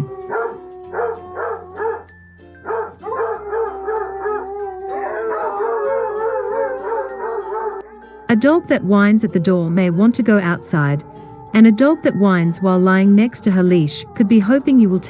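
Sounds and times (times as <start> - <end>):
dog whining: 0.0 - 15.0.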